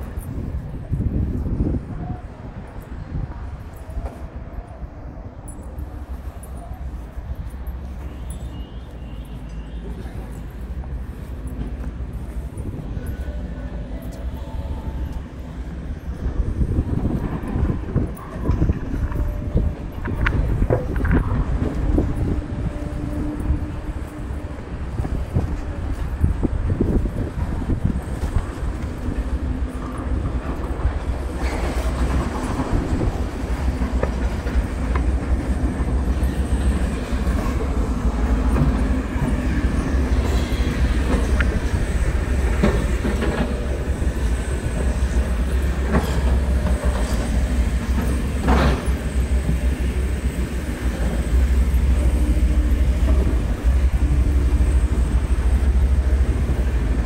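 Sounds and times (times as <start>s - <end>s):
train rumbling past: 0.0s - 57.0s
sharp rail clicks: 5.6s - 57.0s.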